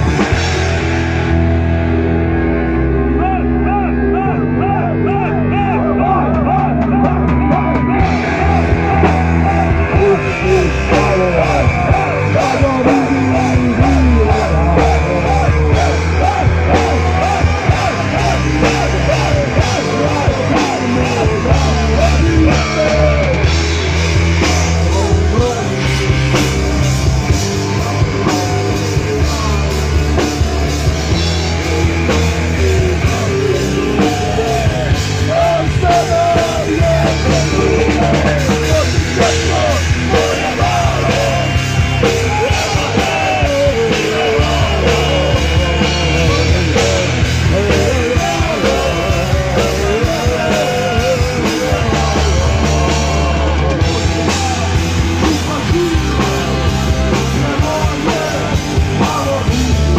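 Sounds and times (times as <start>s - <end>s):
live rock band playing: 0.0s - 59.9s
lead vocal singing: 2.7s - 59.9s.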